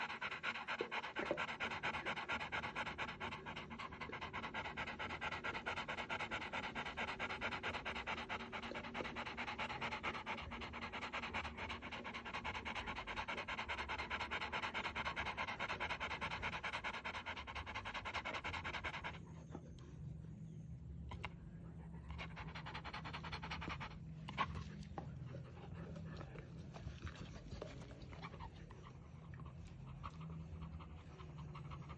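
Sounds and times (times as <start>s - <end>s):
dog panting rapidly: 0.0s - 19.5s, 21.1s - 31.9s
faint low hum: 0.0s - 31.9s.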